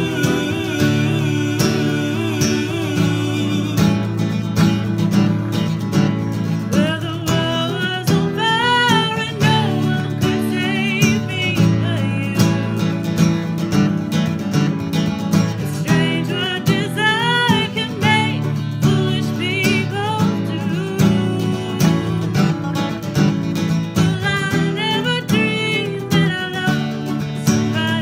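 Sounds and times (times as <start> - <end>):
woman singing: 0.0 - 13.5, 15.6 - 23.3, 23.9 - 28.0
acoustic guitars strummed: 0.0 - 28.0.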